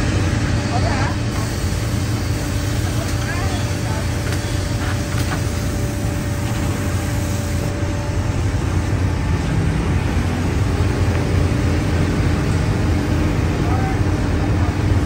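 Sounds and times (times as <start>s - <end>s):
factory machinery rumble: 0.0s - 15.0s.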